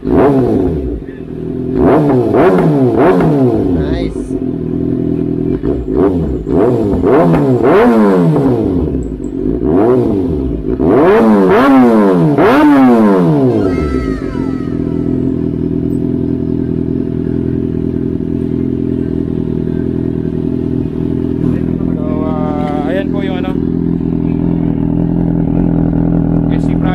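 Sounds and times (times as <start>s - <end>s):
motorcycle engine idling: 0.0s - 26.9s
motorcycle engine revving: 0.0s - 26.9s.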